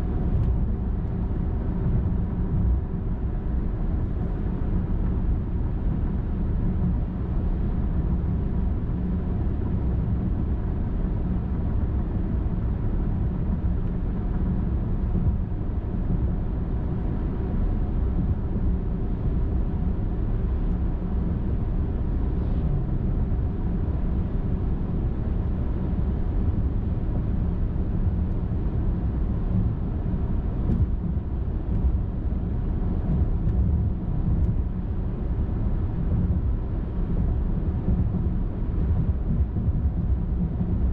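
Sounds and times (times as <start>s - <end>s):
car road noise on highway: 0.0s - 40.9s.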